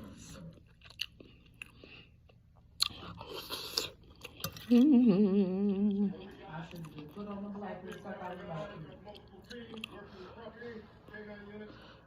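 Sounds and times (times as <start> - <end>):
chewing noodles: 0.1 - 10.0.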